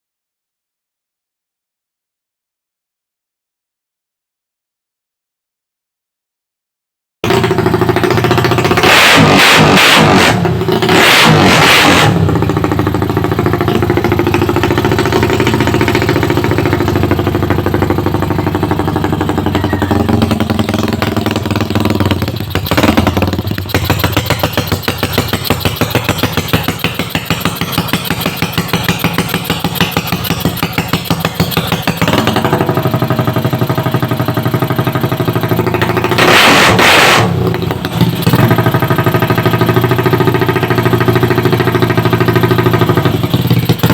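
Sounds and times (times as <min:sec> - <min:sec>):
motorcycle engine idling and revving: 0:07.2 - 0:43.9.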